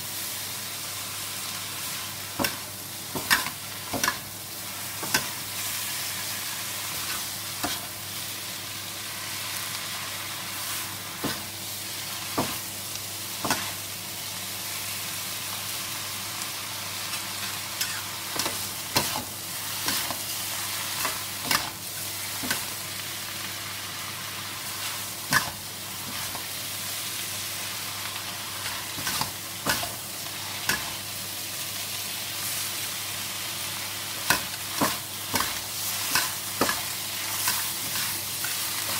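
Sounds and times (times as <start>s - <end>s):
vegetables sizzling in a wok: 0.0s - 38.9s.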